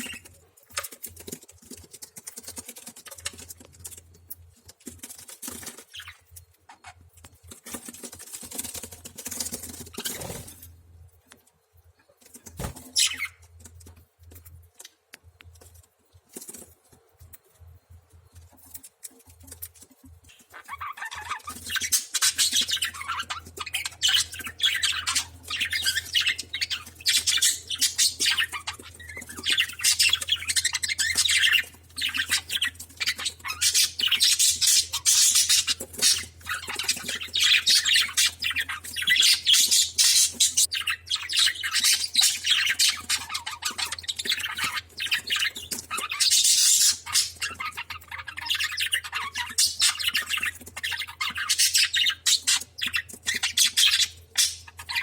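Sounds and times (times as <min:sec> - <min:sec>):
birds chattering and squawking: 0:00.0 - 0:10.8, 0:12.2 - 0:14.9, 0:15.5 - 0:55.0.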